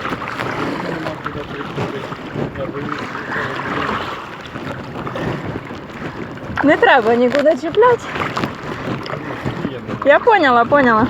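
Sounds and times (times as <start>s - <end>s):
water splashing against kayak: 0.0s - 11.0s
wind buffeting microphone: 0.0s - 11.0s.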